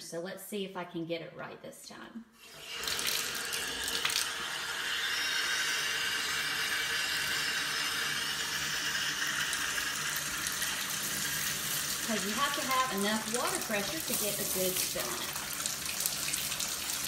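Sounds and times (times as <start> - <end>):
faucet water pouring into tub: 2.4 - 17.0.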